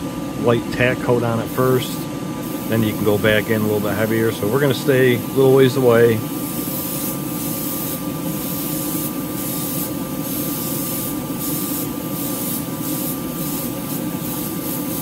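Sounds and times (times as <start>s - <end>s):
exhaust fan hum: 0.0s - 15.0s
airbrush hissing bursts: 1.4s - 15.0s.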